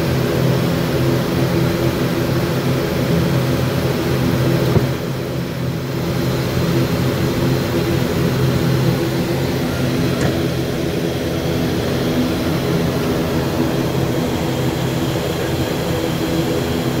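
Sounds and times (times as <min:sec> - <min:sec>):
airliner cockpit hum: 0:00.0 - 0:17.0.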